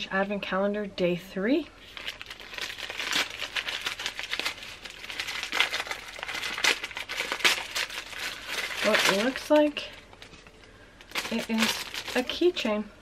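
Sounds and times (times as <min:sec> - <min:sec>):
paper crinkling and tearing: 0:01.8 - 0:12.7.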